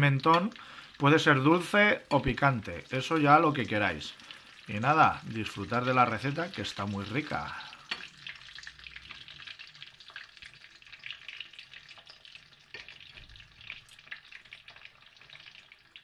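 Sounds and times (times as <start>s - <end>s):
food sizzling and crackling: 0.0s - 16.0s.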